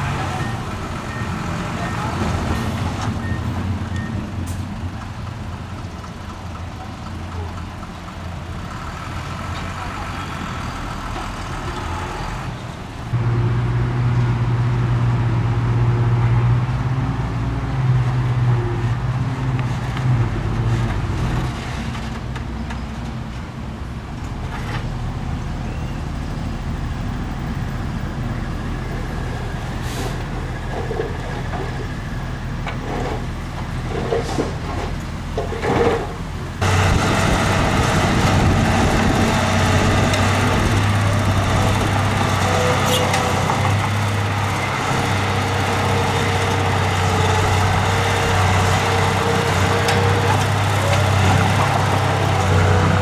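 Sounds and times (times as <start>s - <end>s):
heavy machinery diesel engines: 0.0s - 53.0s.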